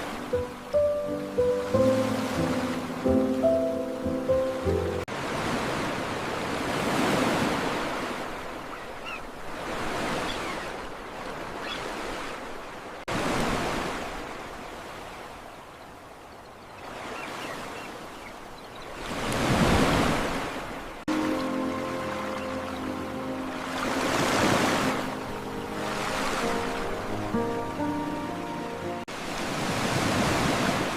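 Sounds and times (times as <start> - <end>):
ocean waves surging: 0.0 - 16.2, 16.8 - 30.9.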